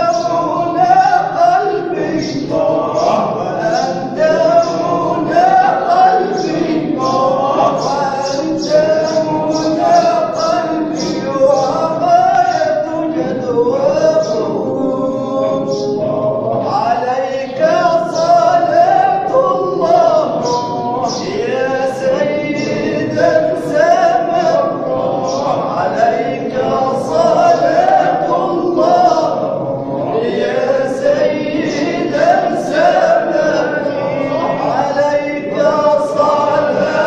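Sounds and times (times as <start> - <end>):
voices chanting and singing: 0.0 - 37.0.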